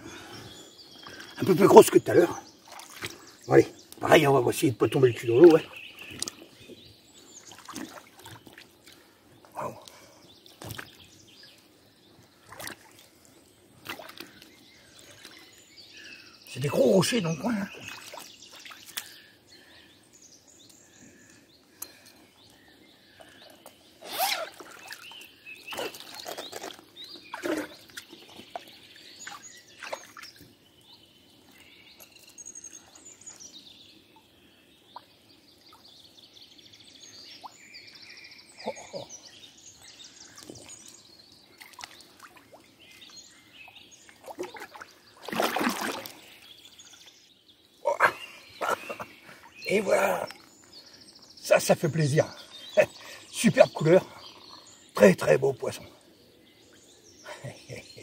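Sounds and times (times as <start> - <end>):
birds singing: 0.0 - 58.0.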